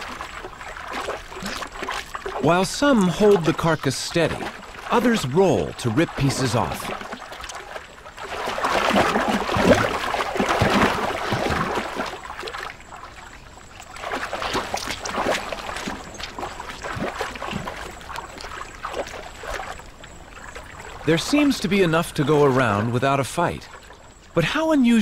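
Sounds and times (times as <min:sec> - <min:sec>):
crocodiles splashing in water: 0:00.0 - 0:23.0.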